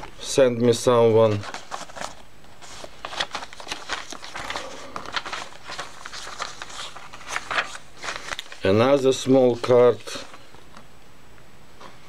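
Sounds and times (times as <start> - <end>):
paper pages rustling: 1.1 - 10.8.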